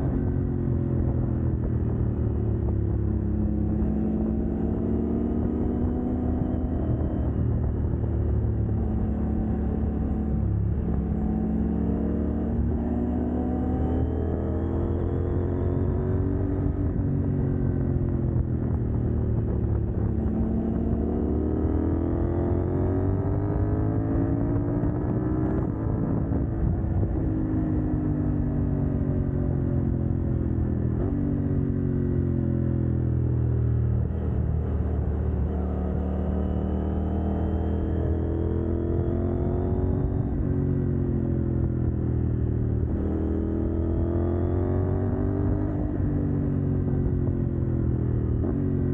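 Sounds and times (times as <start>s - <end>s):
motorcycle engine accelerating: 0.0s - 48.9s
wind and road noise: 0.0s - 48.9s.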